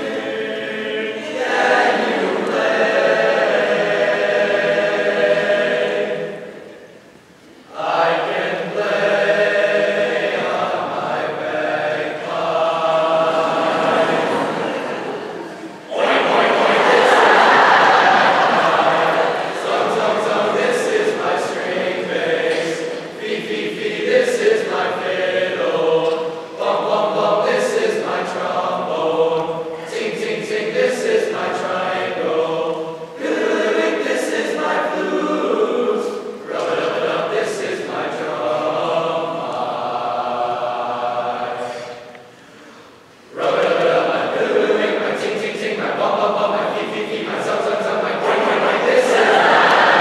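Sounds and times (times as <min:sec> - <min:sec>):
men's choir singing: 0:00.0 - 0:06.9, 0:07.7 - 0:42.3, 0:43.3 - 0:50.0.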